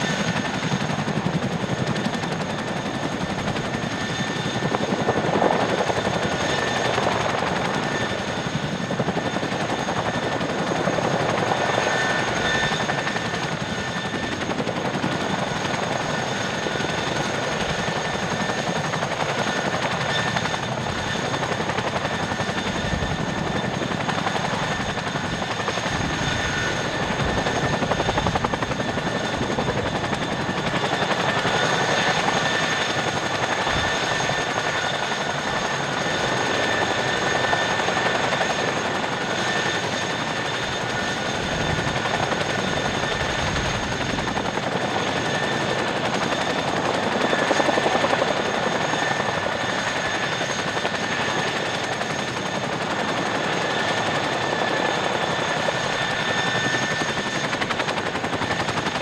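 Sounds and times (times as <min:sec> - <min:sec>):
helicopter rotor chop: 0:00.0 - 0:59.0
high turbine whine: 0:00.0 - 0:59.0.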